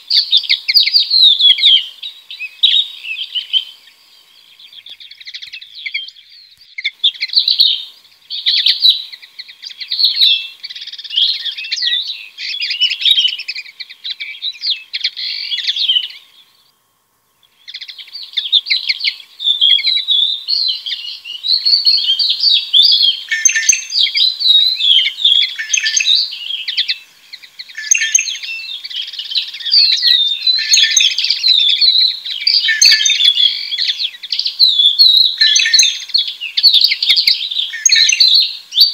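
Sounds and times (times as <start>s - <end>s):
bird chattering and warbling: 0.0s - 16.4s, 17.5s - 38.9s
distant birds: 0.0s - 38.9s.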